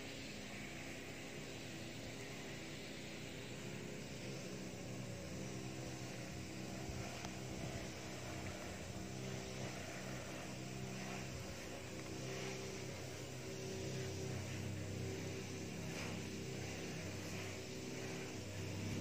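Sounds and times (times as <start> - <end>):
faint hiss: 0.0 - 19.0
motor humming: 0.0 - 19.0.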